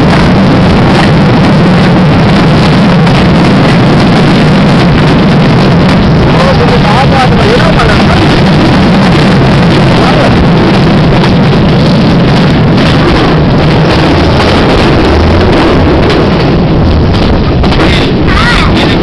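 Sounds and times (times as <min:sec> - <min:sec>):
moving train rumble: 0:00.0 - 0:19.0
wind rushing past microphone: 0:00.0 - 0:19.0.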